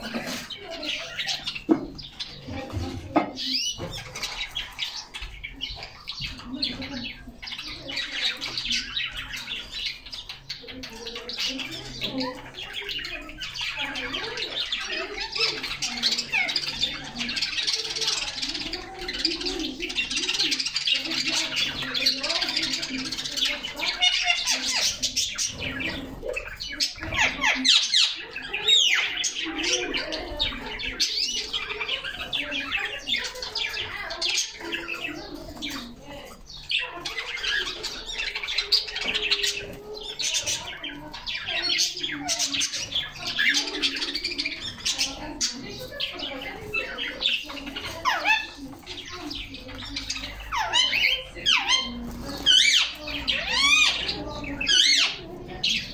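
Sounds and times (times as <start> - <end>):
canaries chirping and singing: 0.0 - 55.9.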